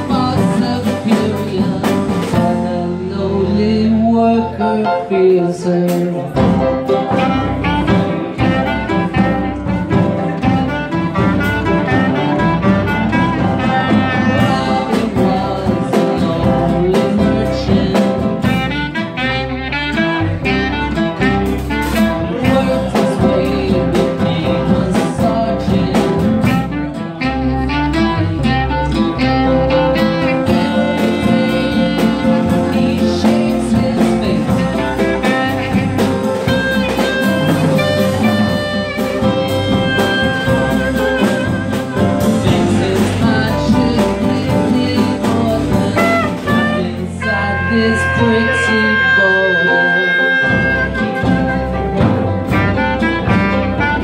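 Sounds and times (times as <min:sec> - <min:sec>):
clarinet melody: 0:00.0 - 0:54.0
live band playing: 0:00.0 - 0:54.0.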